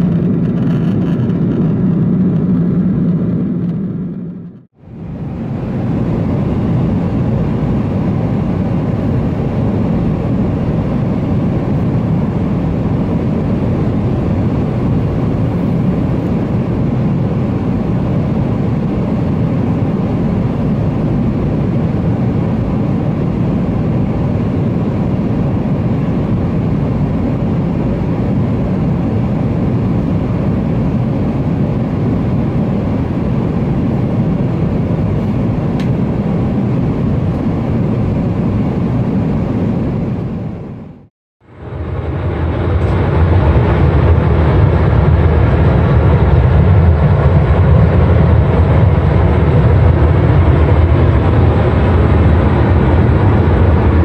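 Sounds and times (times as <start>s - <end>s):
airplane cabin engine rush: 0.0s - 54.0s.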